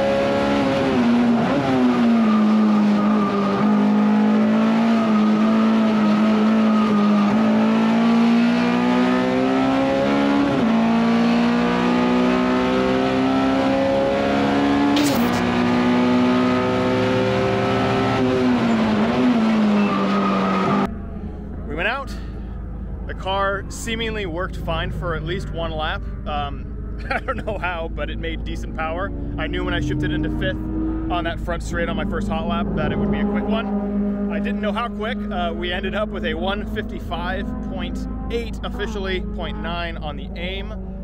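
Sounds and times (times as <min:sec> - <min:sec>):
race car engine at full throttle: 0:00.0 - 0:41.0.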